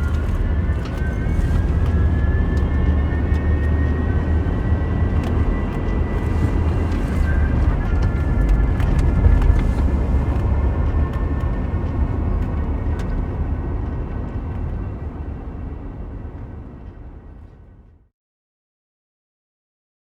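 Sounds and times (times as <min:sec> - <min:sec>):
road and engine rumble: 0:00.0 - 0:18.1.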